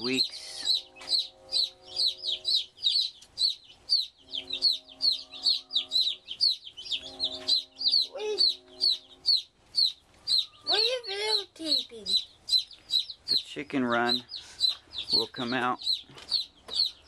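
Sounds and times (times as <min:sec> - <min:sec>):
baby chicks peeping: 0:00.0 - 0:17.0.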